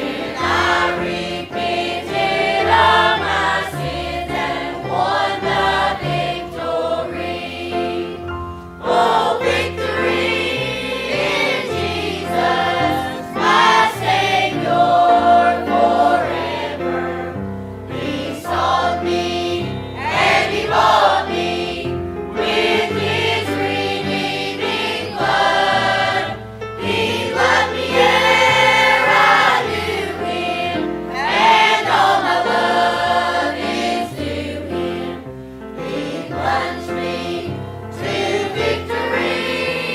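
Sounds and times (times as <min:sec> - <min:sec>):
choir singing a hymn: 0:00.0 - 0:39.9
instrumental accompaniment: 0:00.0 - 0:39.9.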